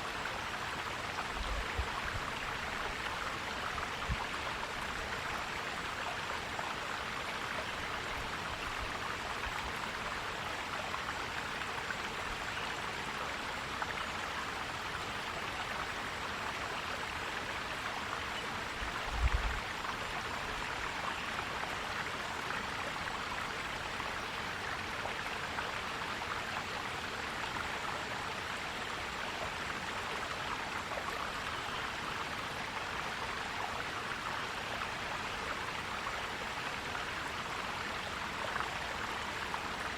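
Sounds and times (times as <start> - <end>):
stream flowing and gurgling: 0.0 - 39.9.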